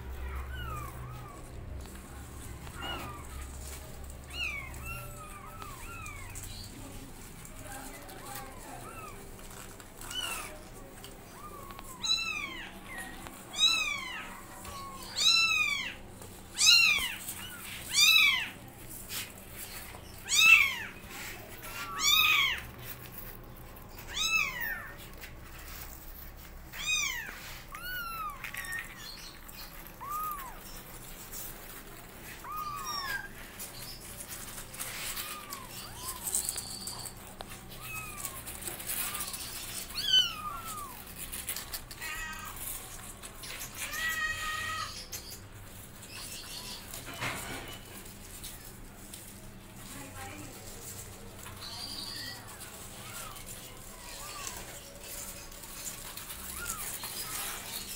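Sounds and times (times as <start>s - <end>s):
kittens meowing: 0.0s - 7.2s, 7.8s - 45.3s, 50.9s - 57.9s.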